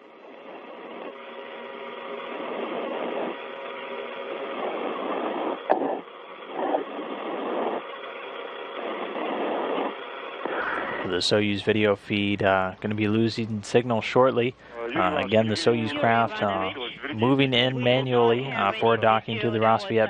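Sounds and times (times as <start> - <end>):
radio hiss and static: 0.0 - 20.0.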